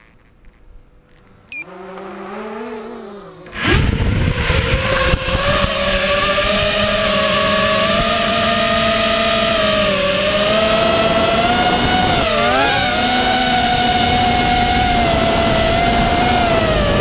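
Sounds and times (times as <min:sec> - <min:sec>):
quadcopter propeller buzz: 0:01.5 - 0:17.0.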